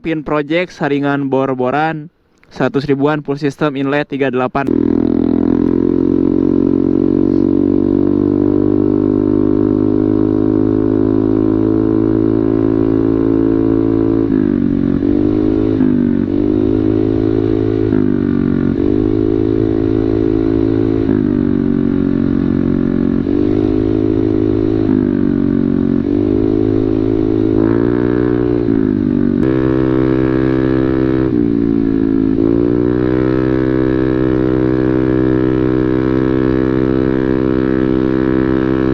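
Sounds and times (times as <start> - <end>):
motorcycle throttle blips: 4.6 - 38.9
motorcycle engine idling: 4.7 - 38.9.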